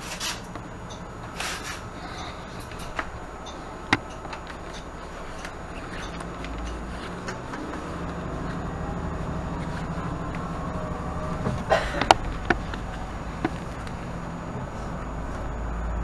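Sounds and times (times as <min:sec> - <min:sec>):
bus engine drone with whine: 0:00.0 - 0:16.0
rattles and clunks: 0:00.0 - 0:16.0.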